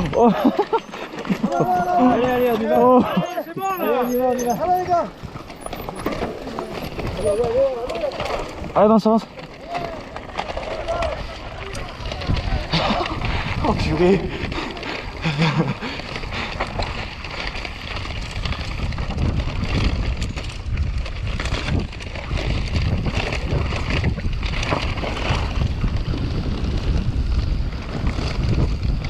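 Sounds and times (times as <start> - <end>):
bike clattering over rough ground: 0.0 - 29.0
wind buffeting microphone: 0.0 - 29.0.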